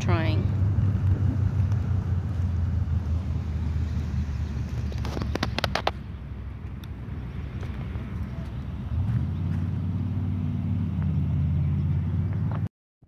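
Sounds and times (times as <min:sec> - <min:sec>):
vehicle engine humming: 0:00.0 - 0:12.7.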